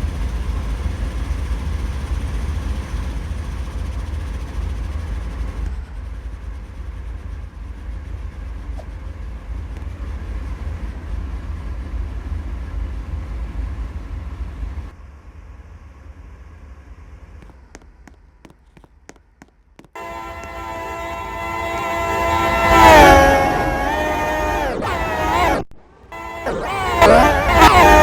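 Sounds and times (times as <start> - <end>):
car road and wind noise: 0.0 - 18.4, 20.0 - 28.0.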